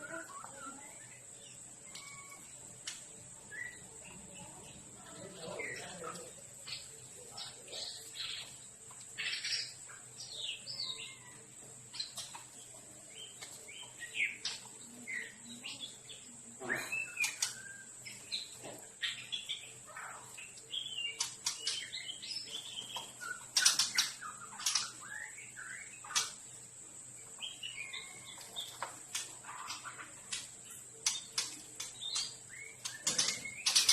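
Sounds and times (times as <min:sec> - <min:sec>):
songbirds chirping and whistling: 0:00.0 - 0:33.9.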